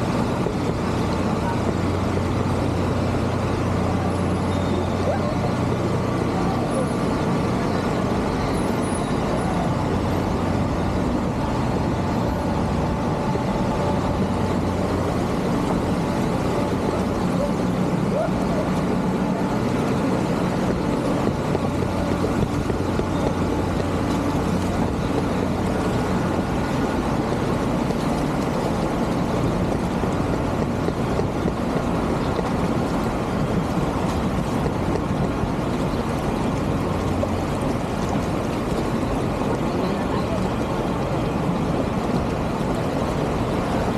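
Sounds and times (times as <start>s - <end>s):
constant rushing noise: 0.0s - 43.9s
vehicle engine humming: 0.0s - 43.9s.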